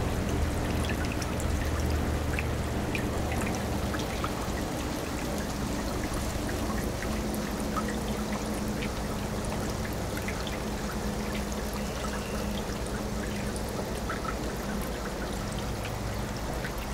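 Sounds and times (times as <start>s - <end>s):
hose water splashing into tank: 0.0s - 16.9s.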